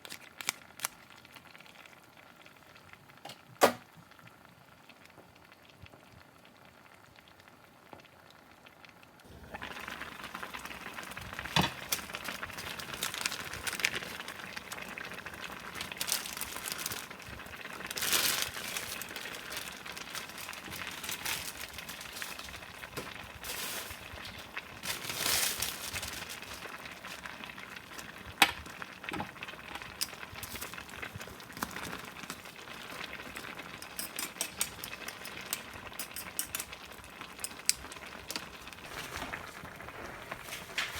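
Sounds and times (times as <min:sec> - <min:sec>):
crinkling: 0:00.0 - 0:01.8, 0:09.4 - 0:40.9
pot of stew boiling: 0:00.0 - 0:40.9.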